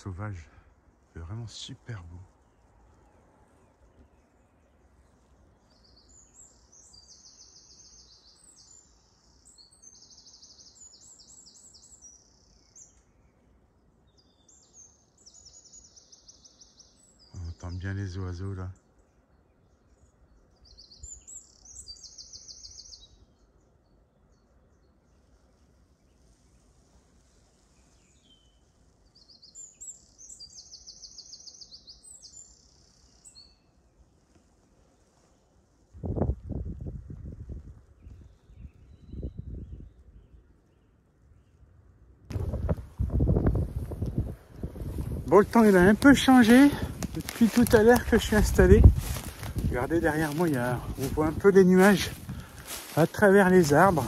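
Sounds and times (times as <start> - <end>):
songbirds trilling: 0.0 - 35.9, 37.8 - 54.0.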